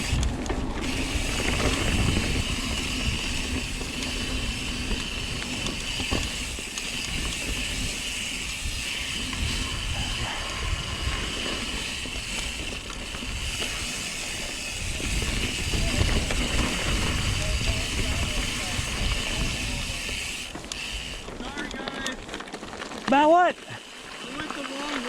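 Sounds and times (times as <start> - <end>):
wind rumble on microphone: 0.0 - 21.4
bike tyres on dirt trail: 0.0 - 25.0.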